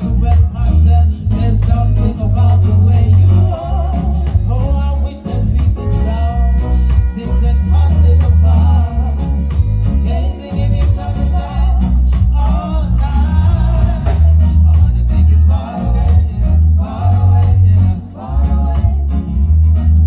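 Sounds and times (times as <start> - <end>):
deep bass line: 0.0 - 20.0
reggae band playing: 0.0 - 20.0.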